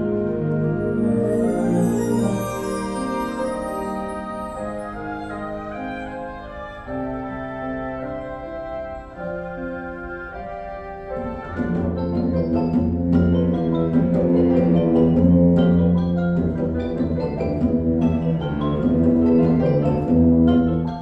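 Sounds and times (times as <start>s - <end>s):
mallet percussion notes: 0.0s - 21.0s
wind band sustained chords: 0.0s - 21.0s.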